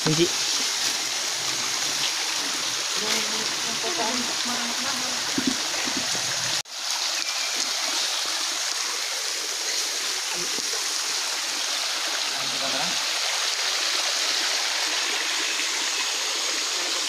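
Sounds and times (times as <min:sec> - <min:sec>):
stream water rushing over rocks: 0:00.0 - 0:17.0.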